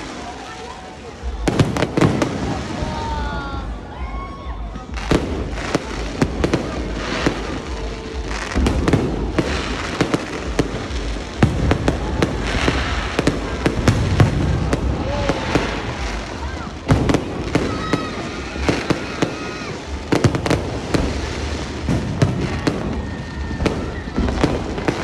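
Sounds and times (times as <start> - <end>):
fireworks crackling bursts: 0.0 - 25.0
fireworks sharp bangs: 0.0 - 25.0.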